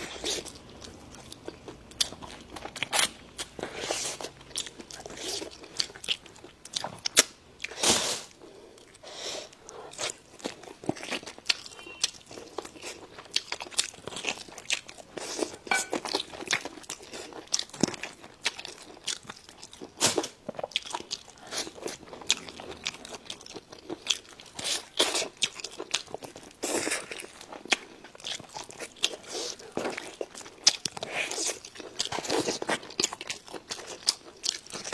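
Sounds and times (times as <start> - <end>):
chewing crunchy food: 0.0 - 34.9.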